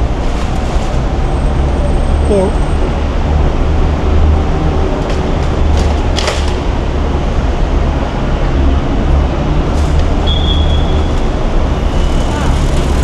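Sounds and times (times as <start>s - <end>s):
road traffic rumble: 0.0s - 13.0s
vehicle engines idling: 0.0s - 13.0s.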